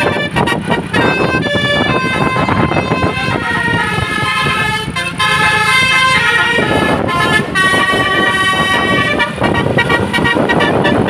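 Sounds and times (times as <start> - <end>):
bus musical horns: 0.0 - 11.0
engine and road noise: 0.0 - 11.0.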